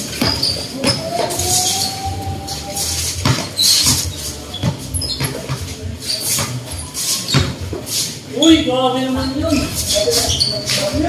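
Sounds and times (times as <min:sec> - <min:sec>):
sneakers squeaking on court: 0:00.0 - 0:11.0.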